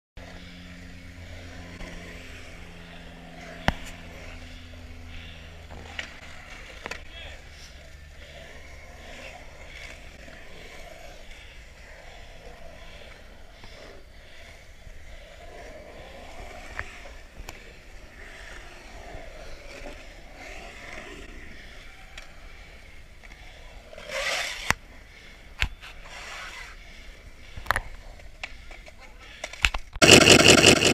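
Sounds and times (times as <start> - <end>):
skateboard scraping: 0.2 - 29.6
skateboard wheels rolling on concrete: 0.2 - 30.9.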